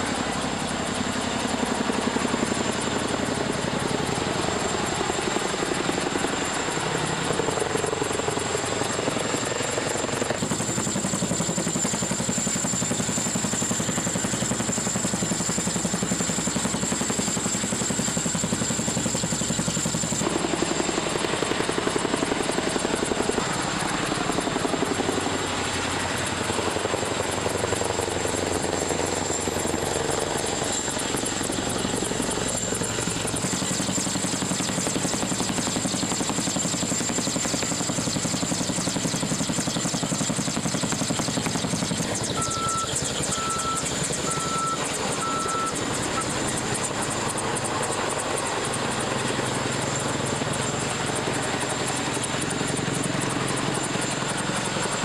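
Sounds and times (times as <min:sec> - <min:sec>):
helicopter rotor beat: 0:00.0 - 0:55.0
high whine of helicopter engines: 0:00.0 - 0:55.0.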